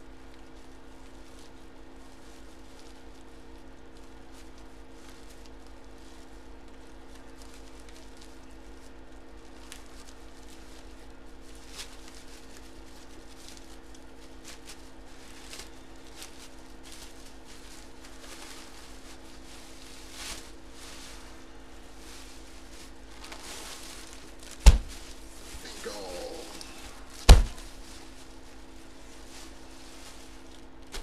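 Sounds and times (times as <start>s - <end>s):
steady electrical hum: 0.0s - 31.0s
plastic packaging crinkling: 0.2s - 31.0s.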